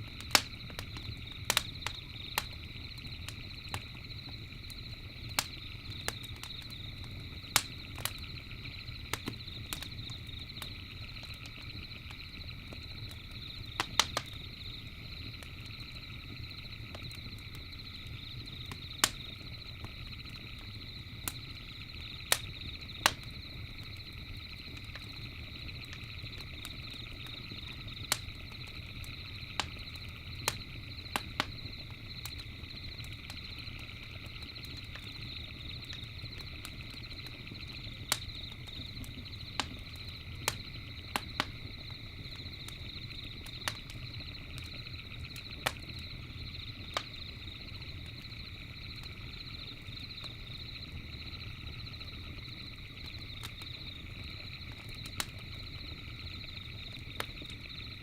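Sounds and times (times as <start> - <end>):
campfire crackling and popping: 0.0 - 58.0
night insects chirring: 0.0 - 58.0.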